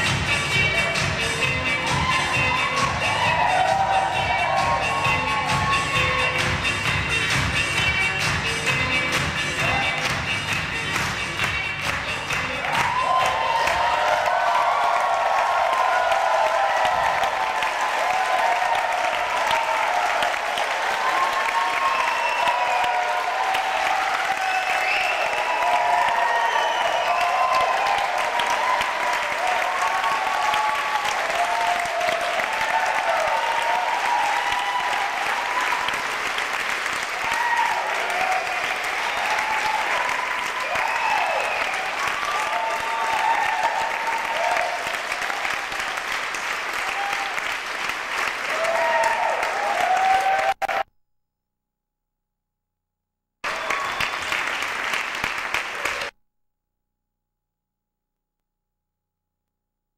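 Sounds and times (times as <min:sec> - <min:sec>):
audience applauding and cheering: 0:00.0 - 0:50.9, 0:53.4 - 0:56.2.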